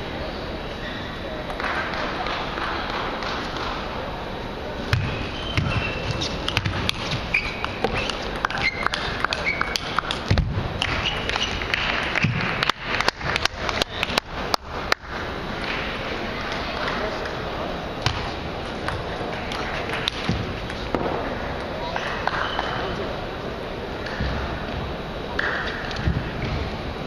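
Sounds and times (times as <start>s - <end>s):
faint voices: 0.0s - 27.0s.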